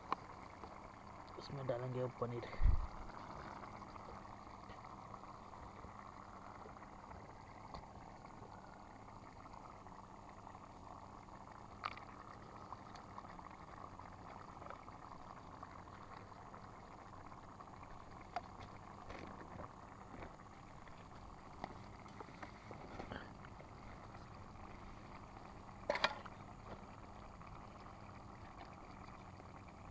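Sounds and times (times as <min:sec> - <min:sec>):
gravy bubbling in a pan: 0:00.0 - 0:29.9.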